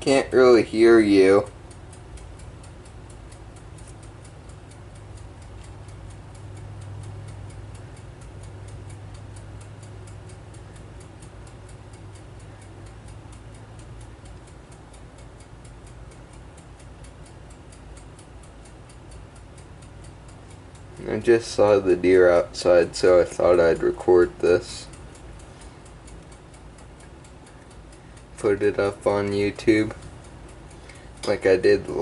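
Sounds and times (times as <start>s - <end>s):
rapid even ticking: 0.0s - 32.0s
steady low hum: 0.0s - 32.0s.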